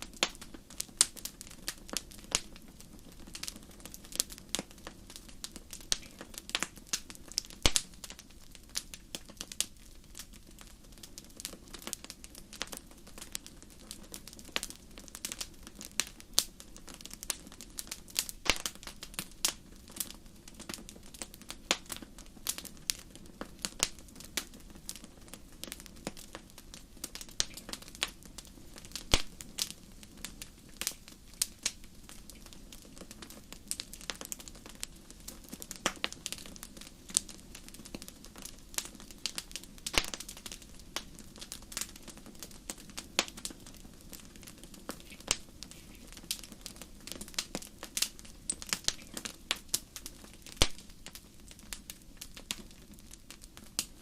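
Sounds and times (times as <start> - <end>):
burning logs crackling and popping: 0.0 - 54.0.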